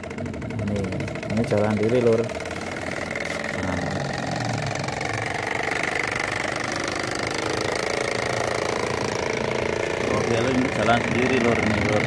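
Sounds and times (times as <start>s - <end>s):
toy tractor engine chugging: 0.0s - 12.0s.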